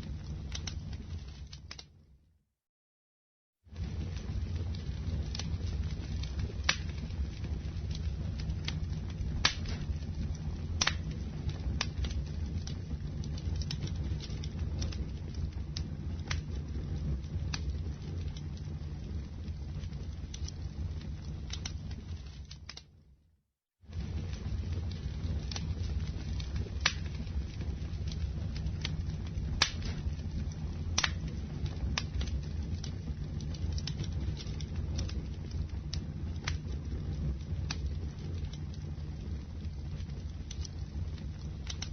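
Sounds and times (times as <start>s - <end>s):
burning wood crackling and popping: 0.0s - 2.0s, 3.7s - 23.0s, 23.9s - 41.9s
campfire flames rumbling: 0.0s - 2.0s, 3.6s - 23.1s, 23.7s - 41.9s.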